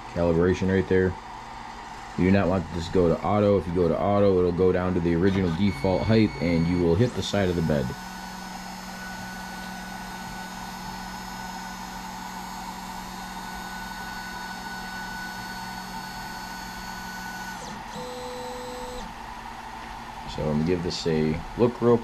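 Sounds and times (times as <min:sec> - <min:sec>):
stepper motors whining: 0:00.0 - 0:19.2.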